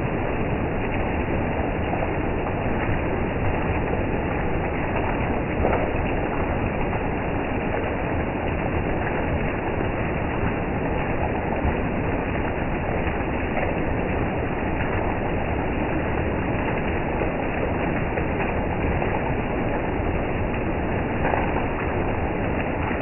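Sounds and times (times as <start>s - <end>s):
heavy rain on leaves: 0.0s - 23.0s.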